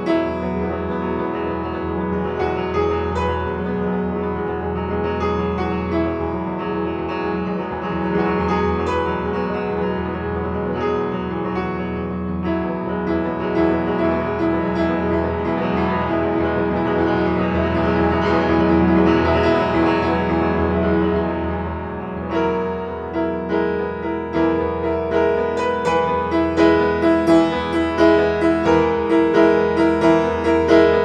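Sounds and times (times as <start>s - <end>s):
solo piano piece: 0.0s - 31.0s.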